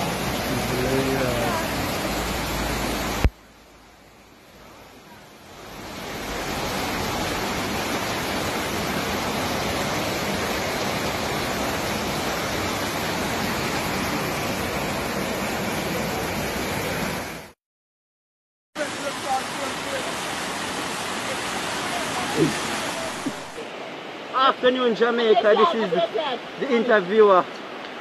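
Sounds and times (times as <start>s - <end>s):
floodwater rushing down a gully: 0.0s - 17.6s, 18.8s - 28.0s.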